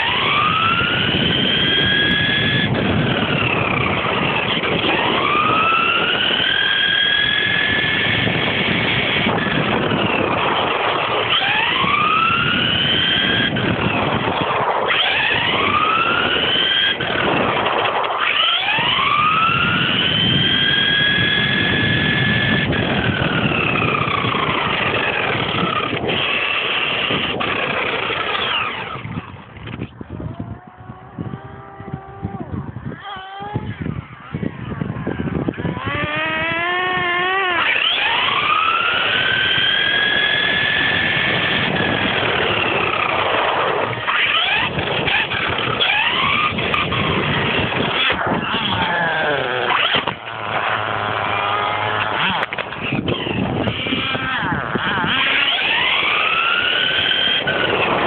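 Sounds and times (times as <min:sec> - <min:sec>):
tyres on tarmac: 0:00.0 - 0:30.6, 0:31.8 - 0:58.0
electric motor and gears whining: 0:00.0 - 0:58.0.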